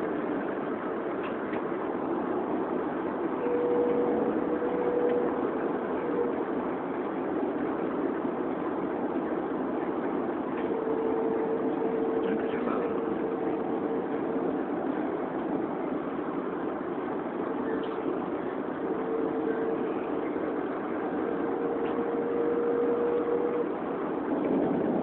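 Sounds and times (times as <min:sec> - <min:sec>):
car road and engine noise: 0:00.0 - 0:25.0
faint steady whine: 0:00.0 - 0:25.0.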